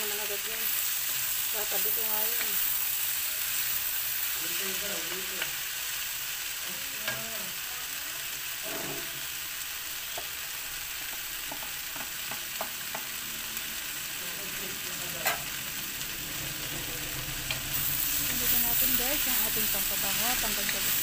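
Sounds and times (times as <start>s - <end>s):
vegetables sizzling in a wok: 0.0s - 21.0s.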